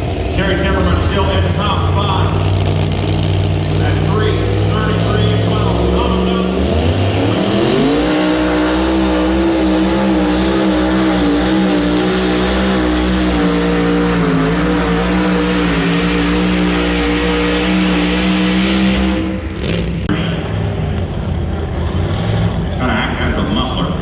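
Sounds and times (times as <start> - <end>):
engine at full throttle: 0.0 - 24.0.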